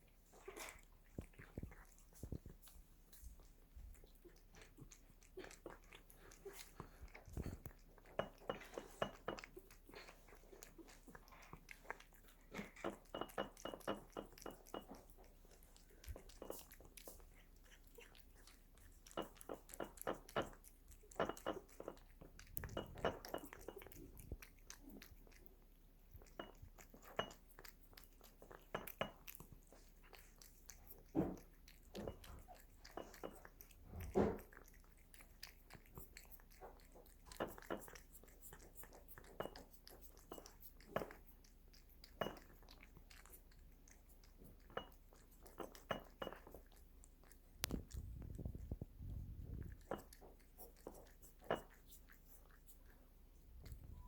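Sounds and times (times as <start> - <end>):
cat chewing a treat: 0.0 - 54.0.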